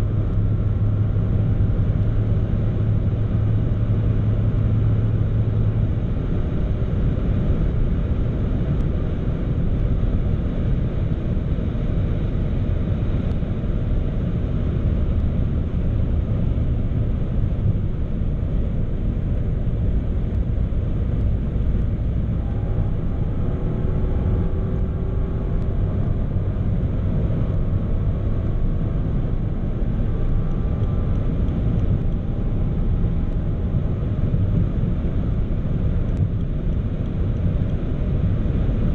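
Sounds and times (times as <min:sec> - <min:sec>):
car driving at speed: 0:00.0 - 0:38.9.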